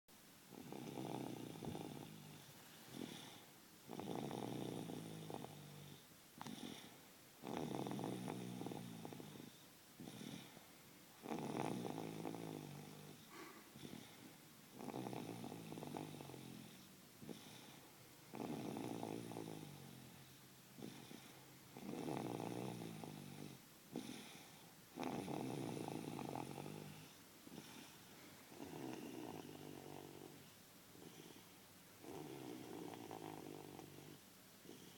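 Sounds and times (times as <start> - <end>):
toddler snoring: 0.5 - 10.6, 11.2 - 34.9.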